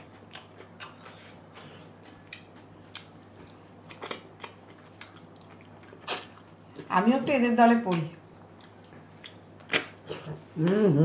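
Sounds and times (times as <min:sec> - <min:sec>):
quiet chewing: 0:00.0 - 0:06.9, 0:07.8 - 0:10.8.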